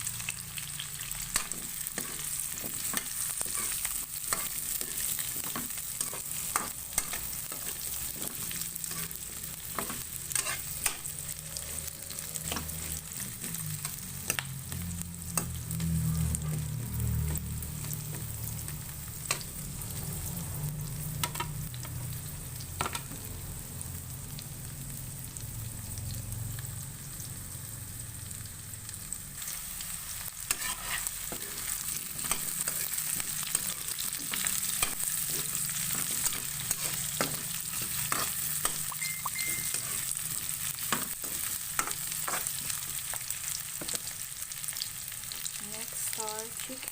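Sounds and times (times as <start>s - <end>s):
garlic sizzling in hot oil: 0.0s - 46.9s.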